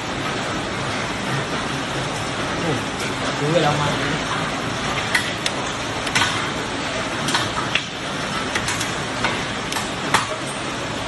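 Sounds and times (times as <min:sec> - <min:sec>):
heavy rain and wind hiss: 0:00.0 - 0:11.0.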